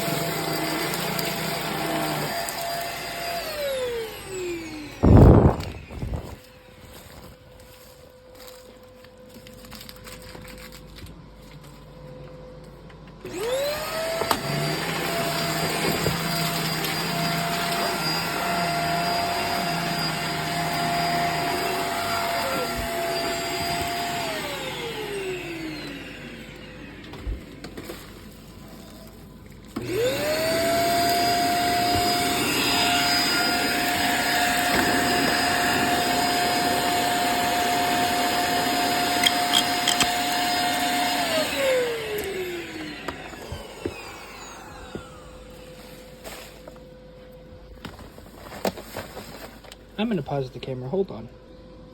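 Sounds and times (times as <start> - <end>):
stick vacuum motor whine: 0.0 - 11.2, 12.0 - 48.7.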